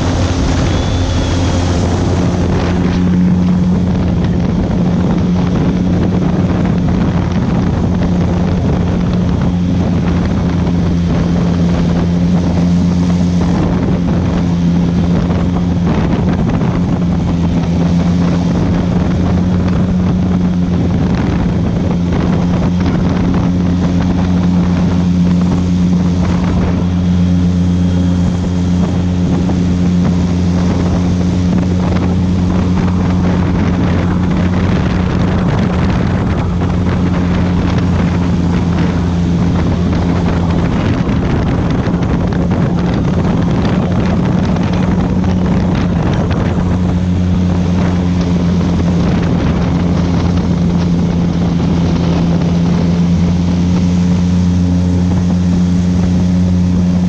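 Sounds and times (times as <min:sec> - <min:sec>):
airboat engine and propeller drone: 0:00.0 - 0:57.0
wind noise on microphone: 0:00.0 - 0:57.0.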